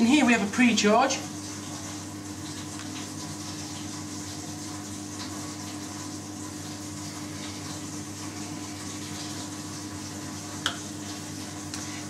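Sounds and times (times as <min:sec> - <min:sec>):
boiler and pump humming: 0:00.0 - 0:12.0.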